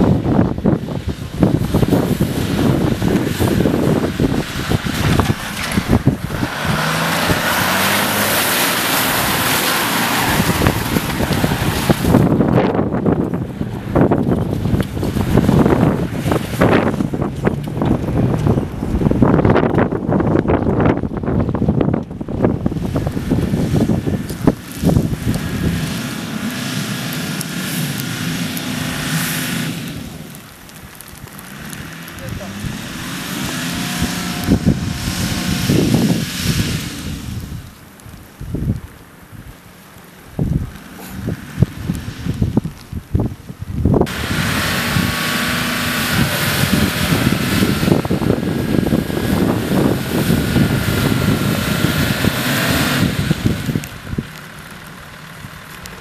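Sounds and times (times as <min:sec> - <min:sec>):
truck engine at high revs: 0:00.0 - 0:56.0
wind buffeting microphone: 0:00.0 - 0:56.0.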